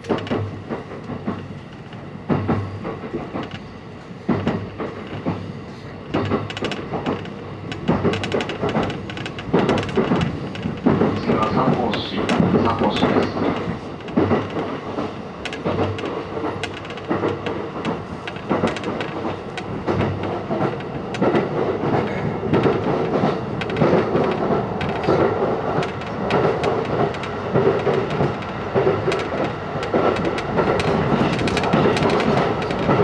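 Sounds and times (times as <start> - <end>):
train rumble inside carriage: 0.0 - 33.0
wheels clicking over rails: 0.0 - 33.0.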